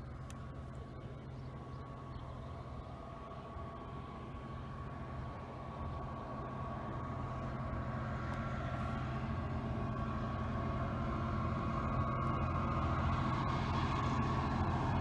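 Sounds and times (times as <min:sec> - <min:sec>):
train engine drone: 0:00.0 - 0:15.0.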